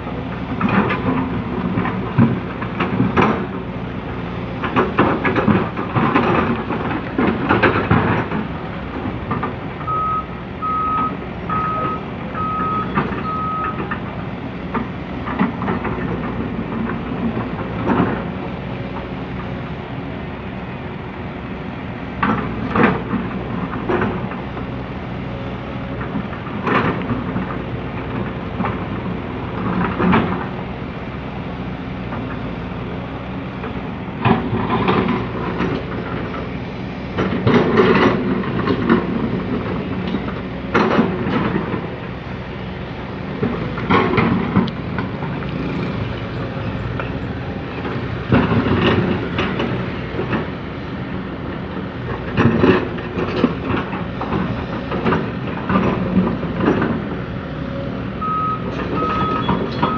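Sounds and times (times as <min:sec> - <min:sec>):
excavator diesel engine: 0:00.0 - 0:59.9
excavator bucket digging clatter: 0:00.2 - 0:03.8, 0:04.5 - 0:09.9, 0:11.5 - 0:19.1, 0:22.2 - 0:24.6, 0:25.9 - 0:30.8, 0:33.6 - 0:42.3, 0:43.3 - 0:57.3, 0:58.2 - 0:59.9.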